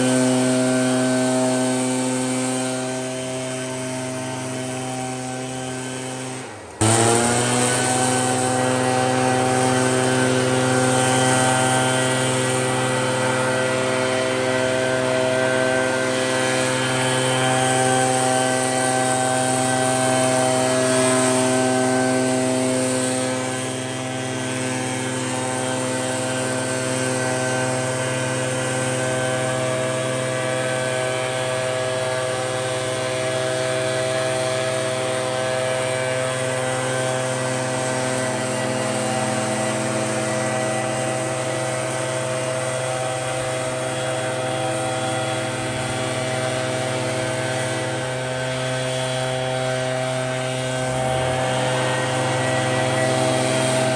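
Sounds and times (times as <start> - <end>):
leaf blower running: 0.0 - 53.9.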